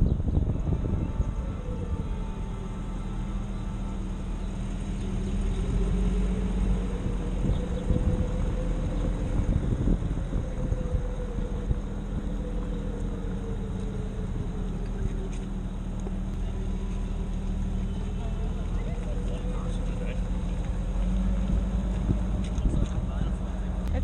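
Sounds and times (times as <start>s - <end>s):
car engine rumbling: 0.0s - 24.0s
road noise: 0.0s - 24.0s.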